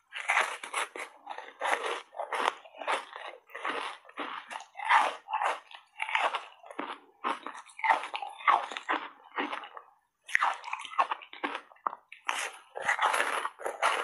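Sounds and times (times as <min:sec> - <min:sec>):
crunching and chewing ice: 0:00.0 - 0:14.0.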